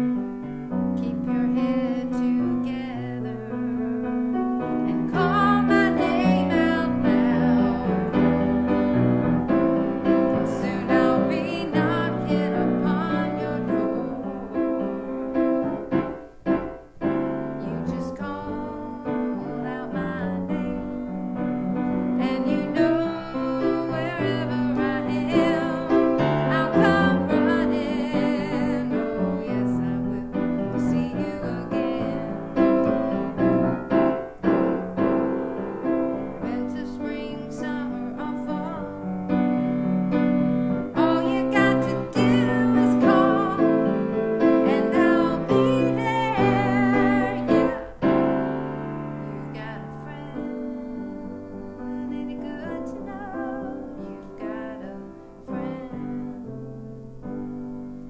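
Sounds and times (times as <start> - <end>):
solo piano hymn: 0.0 - 58.0.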